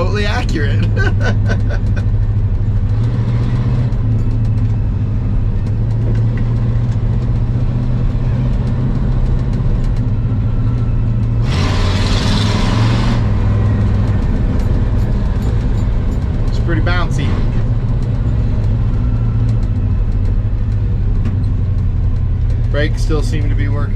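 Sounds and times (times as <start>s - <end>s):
pickup truck engine running: 0.0s - 23.9s.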